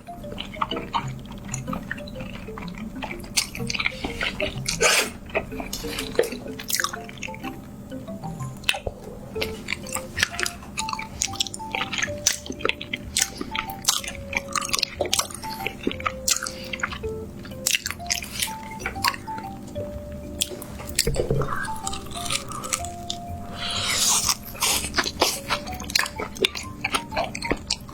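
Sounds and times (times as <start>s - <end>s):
person chewing food: 0.0s - 27.9s
plucked melody music: 0.0s - 27.9s.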